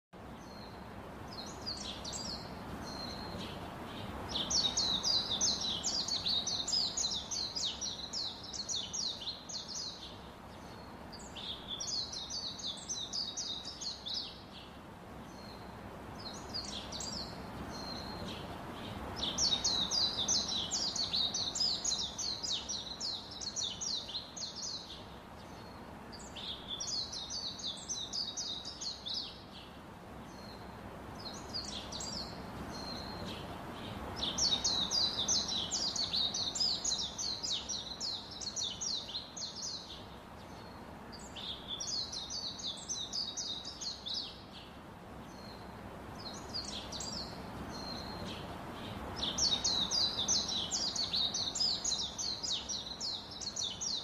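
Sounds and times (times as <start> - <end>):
low background hiss: 0.2 - 54.0.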